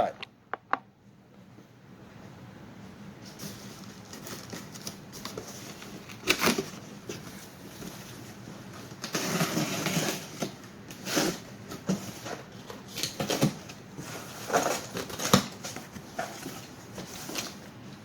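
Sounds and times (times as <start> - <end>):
cardboard rustling and scraping: 3.2 - 18.0.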